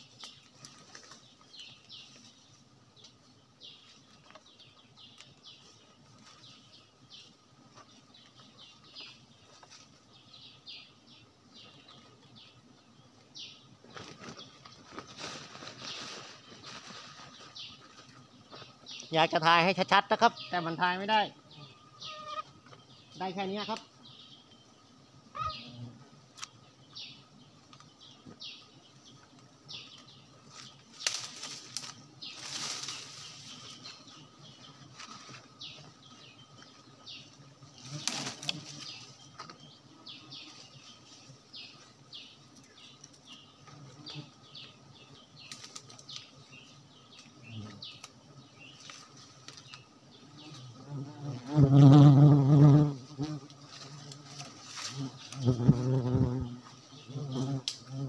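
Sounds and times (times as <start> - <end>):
leaves and branches rustling: 0.0 - 51.6, 52.7 - 58.0
honeybees buzzing: 0.0 - 58.0.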